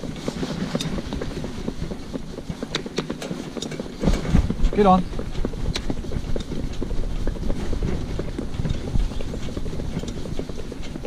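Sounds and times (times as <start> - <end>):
hooves clip-clopping on pavement: 0.0 - 11.0.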